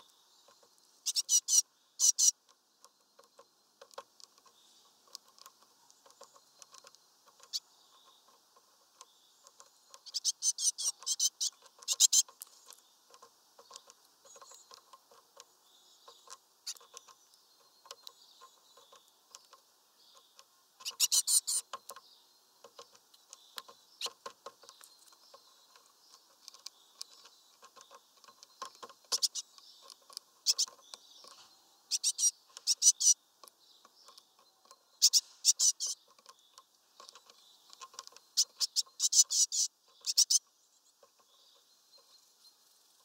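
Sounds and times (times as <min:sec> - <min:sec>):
birds pecking seeds on feeder: 0:00.0 - 0:43.0.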